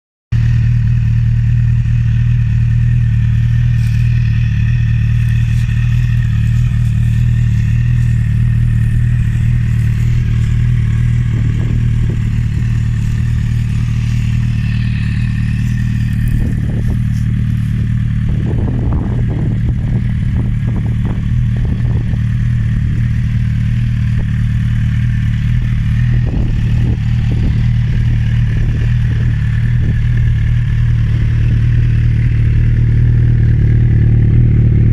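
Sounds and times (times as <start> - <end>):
motorcycle engine idling: 0.4 - 34.9.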